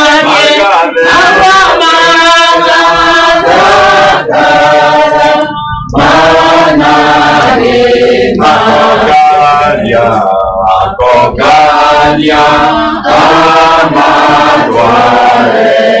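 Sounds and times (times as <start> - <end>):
group singing a hymn: 0.0 - 16.0.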